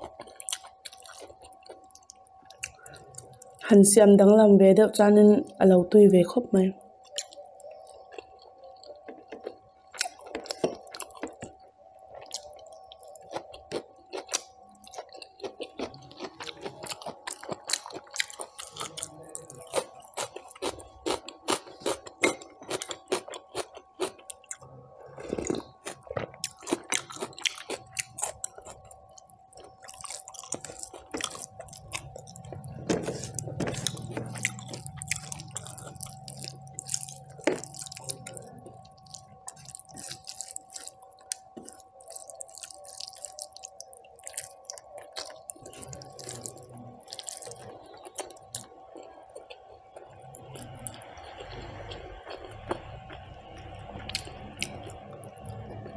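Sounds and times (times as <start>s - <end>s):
wet chewing clicks: 0.0s - 3.7s, 7.0s - 55.9s
faint steady hum: 0.0s - 55.9s.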